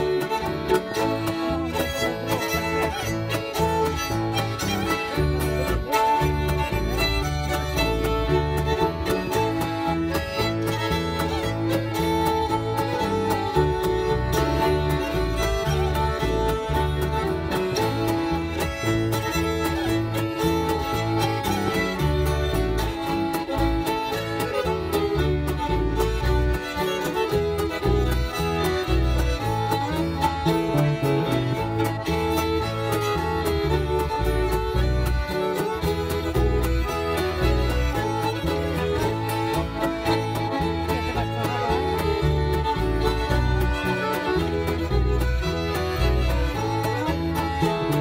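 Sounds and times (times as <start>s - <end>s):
fiddle-like melody: 0.0s - 48.0s
rhythmic bass line: 0.0s - 48.0s
string accompaniment: 0.0s - 48.0s
strummed guitar: 0.0s - 48.0s.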